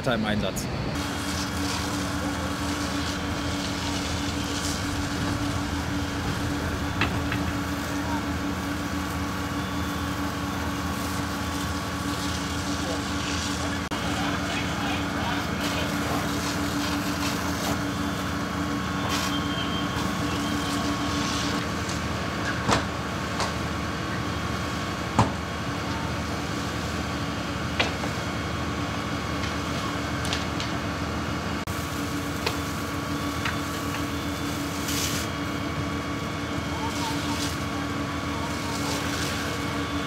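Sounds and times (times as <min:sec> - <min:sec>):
diesel pump engine droning: 0:00.0 - 0:40.0.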